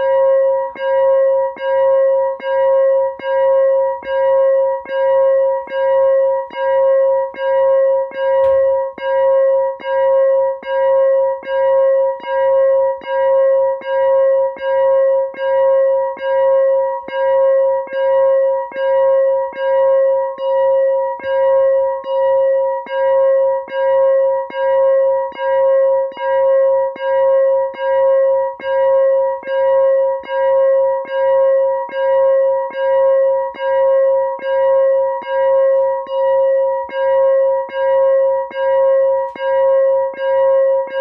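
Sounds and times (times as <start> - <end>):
synthesized crossing bell dinging: 0.0 - 41.0.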